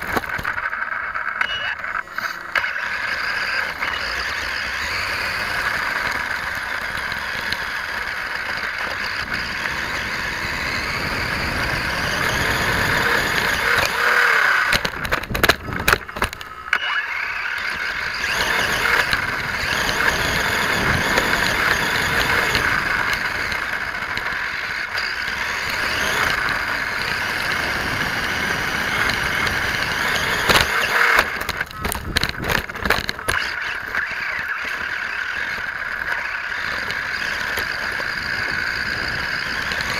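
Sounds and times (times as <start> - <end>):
toy car motor running: 0.0 - 39.9
tyres on gravel: 0.0 - 39.9.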